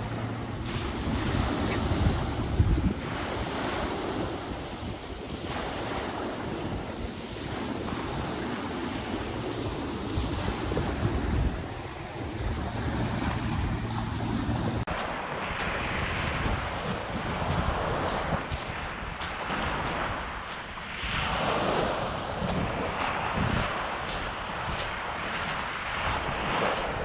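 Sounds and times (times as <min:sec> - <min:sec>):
water-like noise: 0:00.0 - 0:27.0
wind rumbling over microphone: 0:00.0 - 0:27.0.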